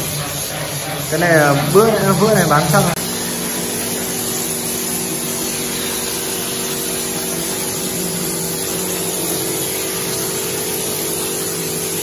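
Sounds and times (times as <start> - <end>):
motor hum: 0.0 - 12.0
spray gun hissing: 0.0 - 12.0.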